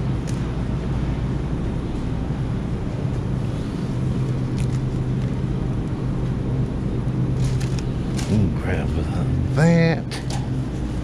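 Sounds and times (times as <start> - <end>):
refrigerated display case humming: 0.0 - 11.0.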